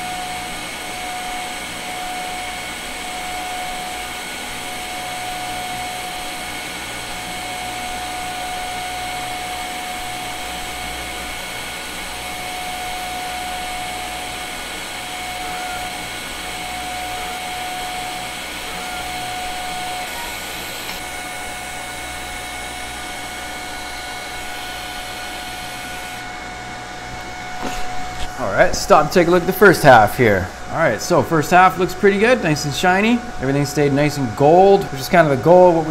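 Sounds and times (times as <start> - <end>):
welding arc hissing: 0.0 - 35.9.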